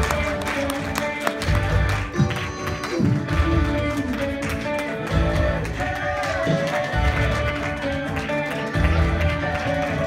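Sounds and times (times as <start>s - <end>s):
guitar music with strong bass: 0.0s - 10.0s.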